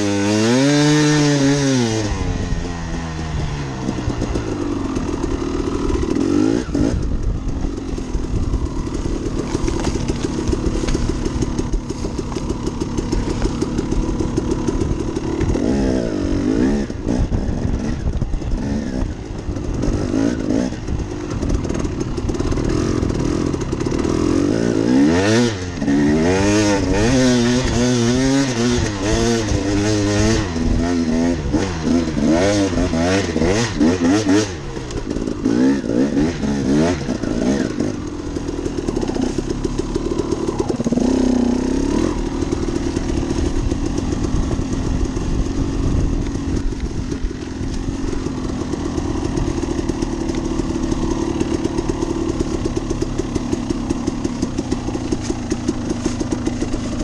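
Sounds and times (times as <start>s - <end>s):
two-stroke dirt bike engine revving: 0.0s - 57.0s.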